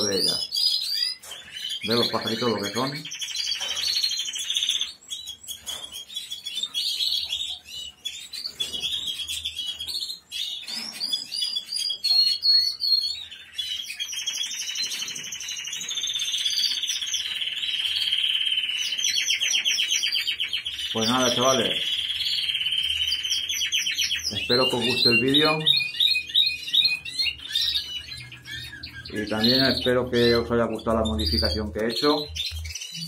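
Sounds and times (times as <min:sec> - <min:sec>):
caged finches chirping and warbling: 0:00.0 - 0:33.0.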